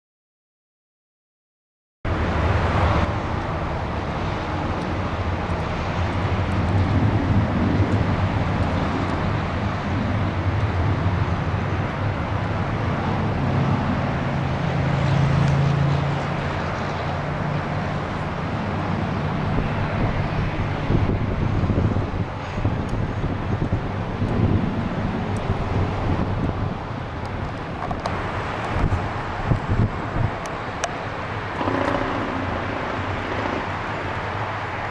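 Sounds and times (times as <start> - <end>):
jet engines running: 2.1 - 34.9.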